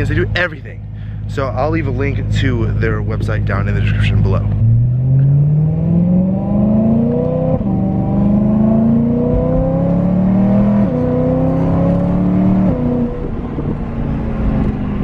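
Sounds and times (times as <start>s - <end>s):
car engine accelerating through gears: 2.1s - 15.0s.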